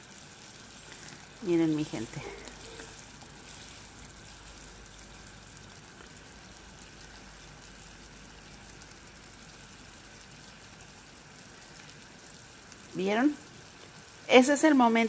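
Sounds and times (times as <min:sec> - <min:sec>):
syrup boiling with bubbles popping: 0:00.0 - 0:15.0.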